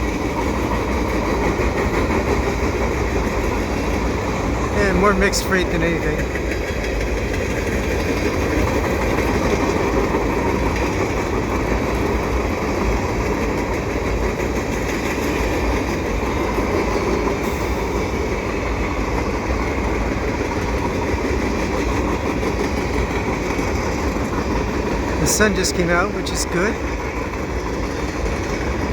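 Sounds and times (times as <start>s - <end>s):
freight train wheels on rails: 0.0s - 28.9s.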